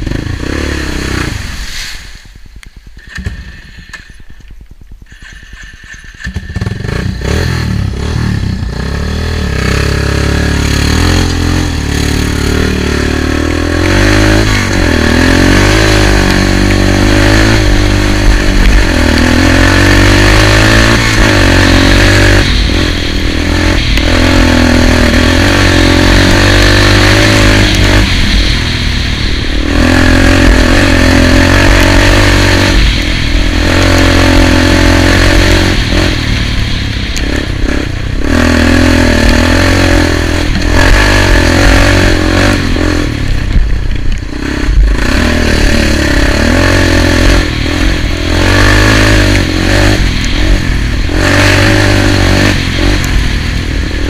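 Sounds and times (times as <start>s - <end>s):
vehicle engine revving: 0.0s - 4.1s, 5.1s - 54.0s.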